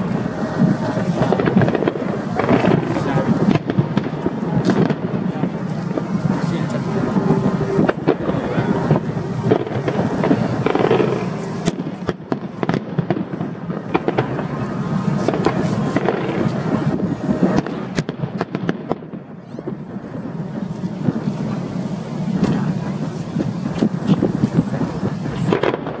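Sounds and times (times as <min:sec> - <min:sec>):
fireworks bangs and pops: 0:00.0 - 0:26.0
fireworks crackling: 0:00.0 - 0:26.0.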